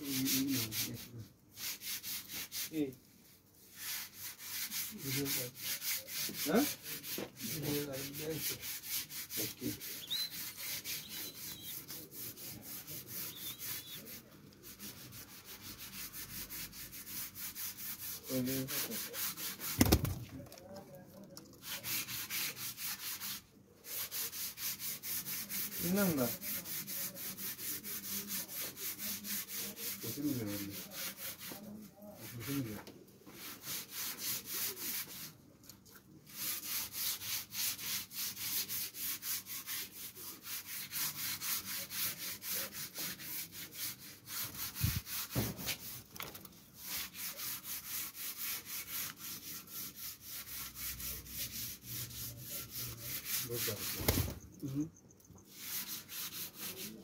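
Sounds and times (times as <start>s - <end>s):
scratchy rasping strokes: 0.0s - 54.4s, 55.5s - 57.0s.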